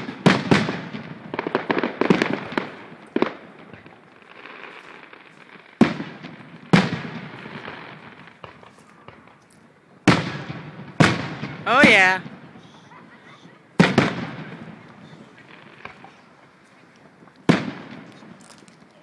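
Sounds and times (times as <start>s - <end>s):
loud fireworks booms: 0.0s - 9.4s, 10.0s - 19.0s
fireworks bangs and pops: 0.0s - 19.0s.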